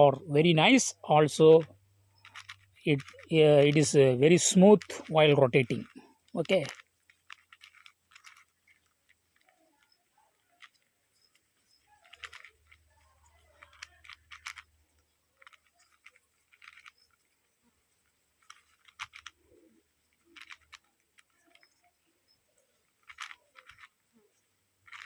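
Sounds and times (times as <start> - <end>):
puzzle cube clicking as turned: 0.9 - 25.0.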